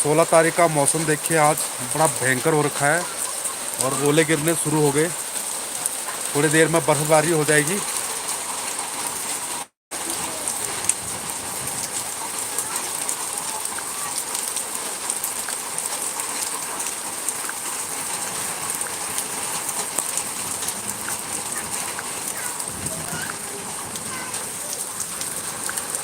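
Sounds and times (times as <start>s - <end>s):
hailstones ticking: 0.0s - 9.2s, 10.0s - 26.0s
rain hissing: 0.0s - 26.0s.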